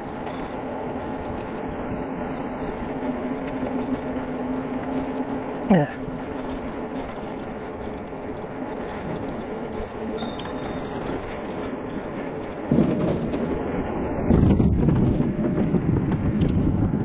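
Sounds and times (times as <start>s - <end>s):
bicycle rolling: 0.0s - 17.0s.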